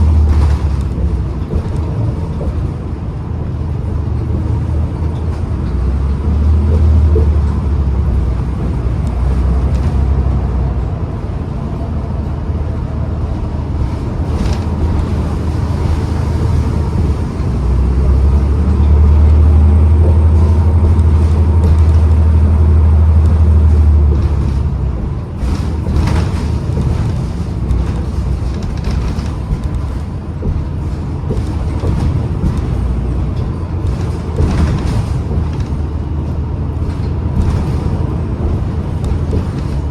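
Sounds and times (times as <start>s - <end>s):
bus drivetrain low rumble: 0.0s - 39.9s.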